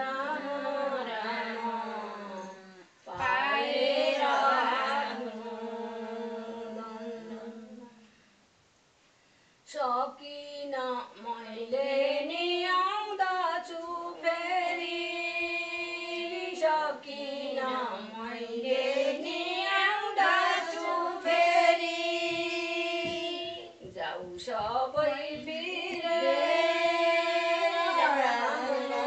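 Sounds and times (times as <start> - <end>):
women singing unaccompanied: 0.0 - 8.0, 9.7 - 29.0.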